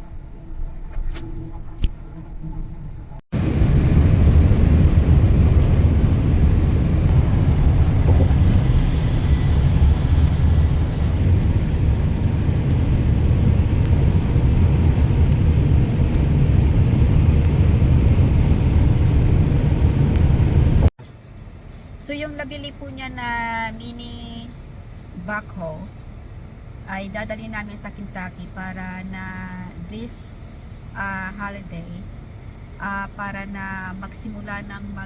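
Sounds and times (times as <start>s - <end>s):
vehicle road and engine rumble: 0.0s - 35.0s.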